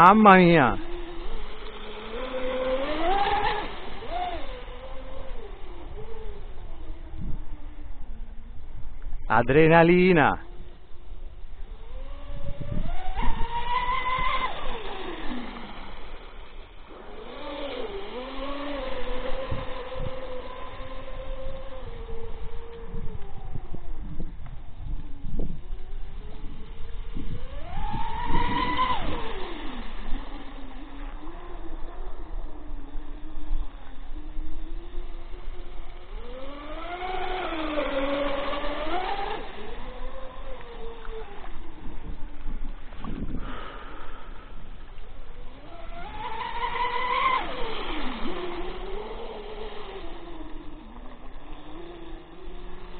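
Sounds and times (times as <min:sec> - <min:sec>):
electric motors whining: 0:00.0 - 0:52.9.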